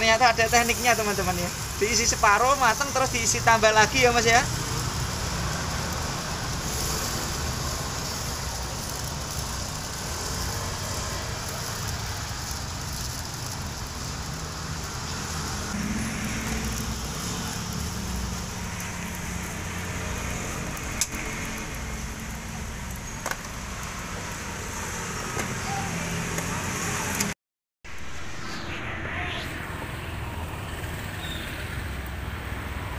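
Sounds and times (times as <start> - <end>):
batter sizzling on a griddle: 0.0 - 27.2
road traffic rumble: 0.0 - 32.9.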